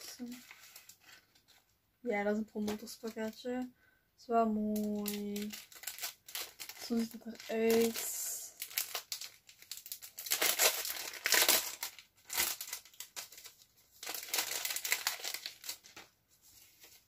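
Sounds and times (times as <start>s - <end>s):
plastic bag crinkling: 0.0s - 1.6s, 4.7s - 17.0s.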